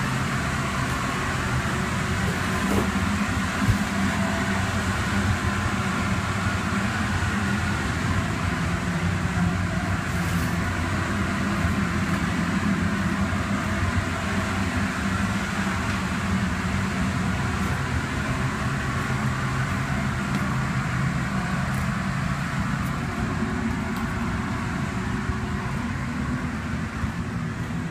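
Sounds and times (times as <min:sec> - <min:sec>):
fan rushing noise: 0:00.0 - 0:27.9
low hum: 0:00.0 - 0:27.9.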